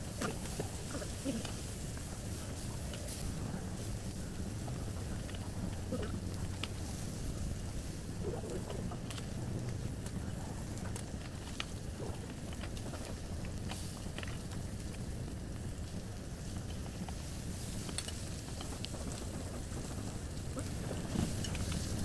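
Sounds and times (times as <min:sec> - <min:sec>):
meat sizzling on a grill: 0:00.0 - 0:22.0
steady low hum: 0:00.0 - 0:22.0.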